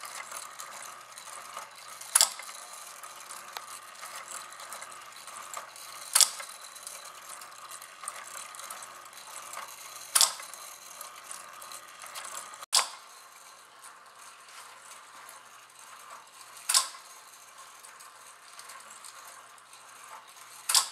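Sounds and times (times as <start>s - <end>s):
gear motor whirring: 0.0s - 20.9s.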